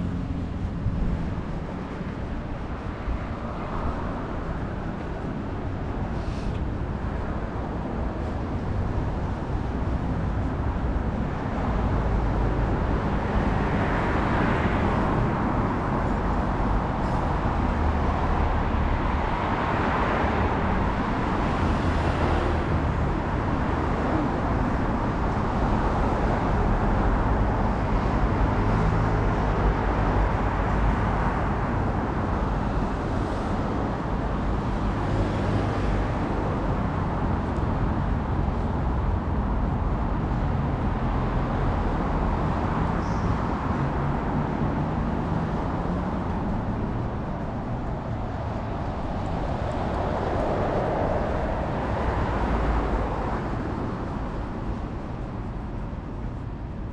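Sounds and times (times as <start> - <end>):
passing cars and buses: 0.0 - 56.9.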